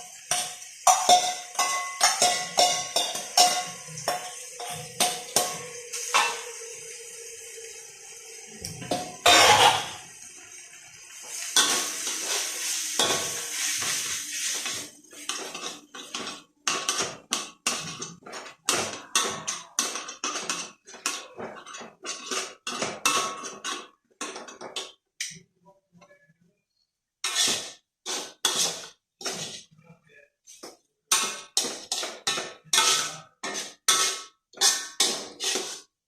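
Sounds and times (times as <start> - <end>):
spatula scraping a pan: 0.0 - 10.2, 11.1 - 25.0, 27.2 - 29.8, 30.4 - 36.0
frying sizzle: 0.0 - 25.1, 27.2 - 29.7, 30.6 - 36.0.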